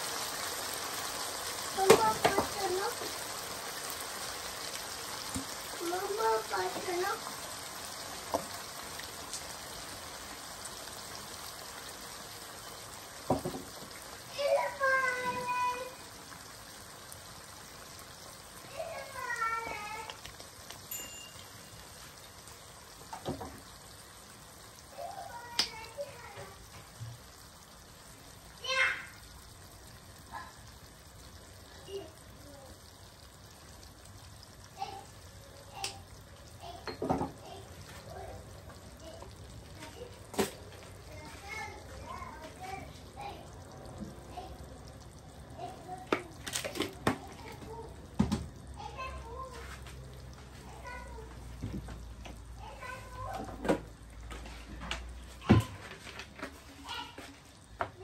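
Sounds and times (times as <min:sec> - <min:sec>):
meat sizzling in a frying pan: 0:00.0 - 0:58.0.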